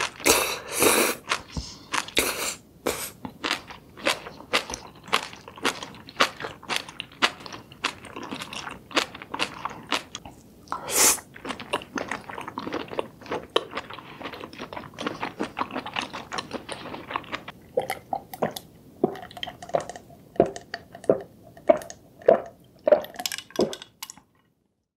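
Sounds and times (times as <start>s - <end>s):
chewing seafood close up: 0.0s - 24.6s.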